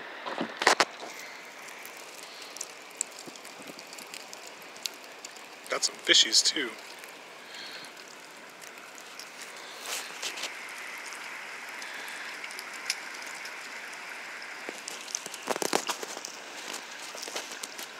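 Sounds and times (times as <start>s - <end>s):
water dripping and trickling: 0.9s - 17.9s.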